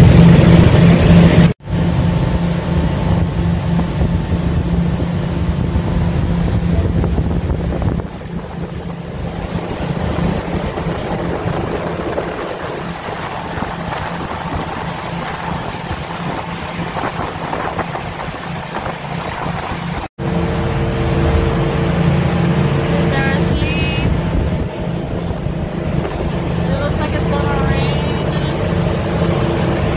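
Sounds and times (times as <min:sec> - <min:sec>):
ferry engine running: 0:00.0 - 0:29.9
rush of wind and water: 0:00.0 - 0:29.9.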